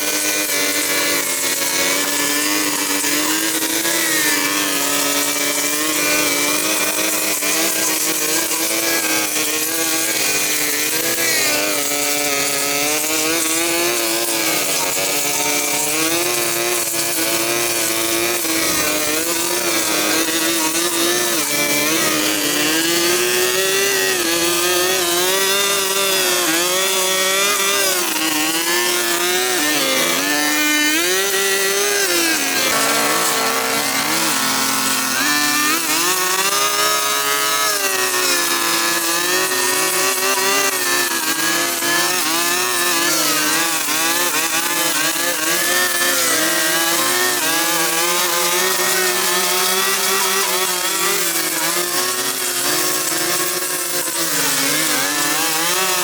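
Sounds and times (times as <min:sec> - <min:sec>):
small petrol engine revving: 0:00.0 - 0:56.0.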